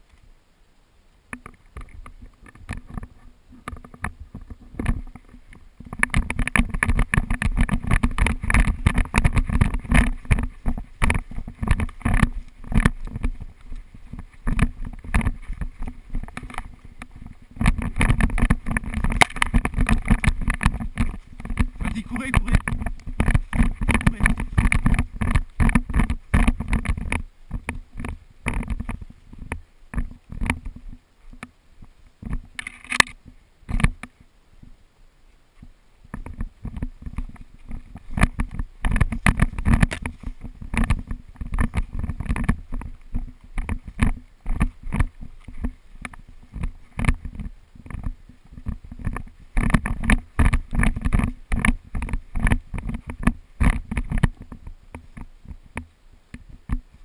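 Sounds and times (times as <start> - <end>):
rustling and knocking on microphone: 1.3 - 34.8, 35.6 - 57.0.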